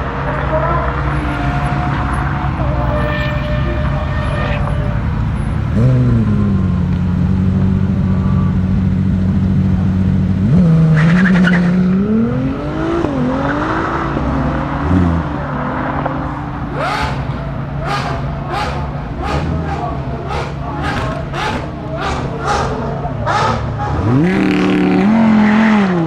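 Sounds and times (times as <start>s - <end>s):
sports car engine revving: 0.0s - 26.0s.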